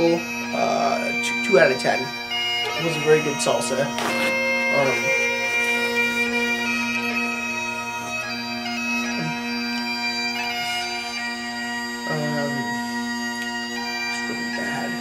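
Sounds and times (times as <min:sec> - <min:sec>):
bagpipe drone and melody: 0:00.0 - 0:15.0.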